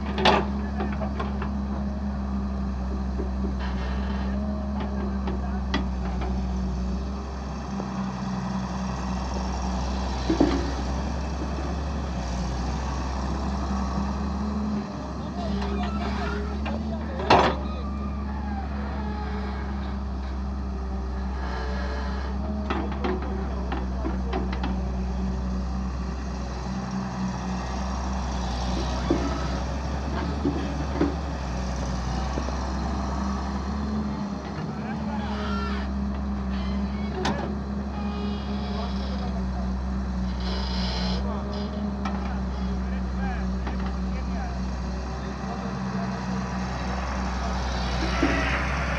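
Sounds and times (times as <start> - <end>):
diesel excavator engine running: 0.0 - 48.9.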